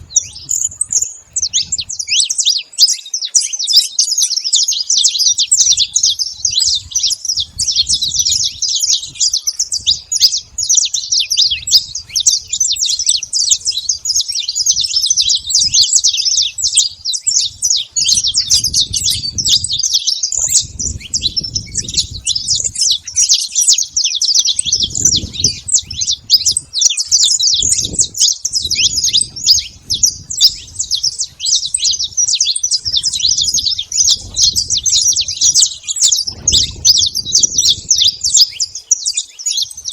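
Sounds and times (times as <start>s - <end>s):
finch chirping song: 0.0s - 39.9s.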